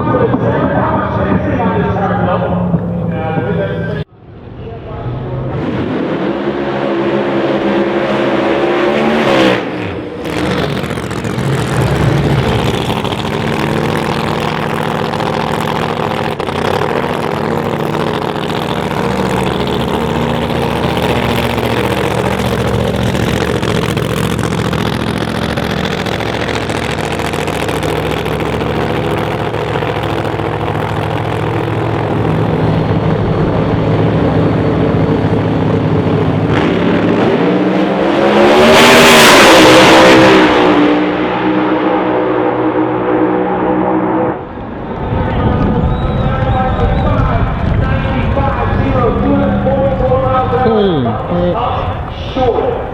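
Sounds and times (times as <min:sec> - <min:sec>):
drag racing engines revving: 0:00.0 - 0:52.9.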